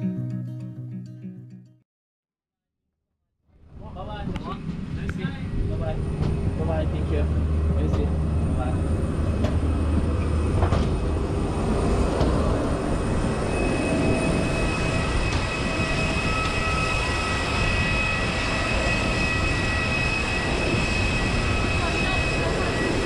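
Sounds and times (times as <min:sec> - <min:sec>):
high steady whine: 0:03.6 - 0:23.0
machinery drone: 0:03.7 - 0:23.0.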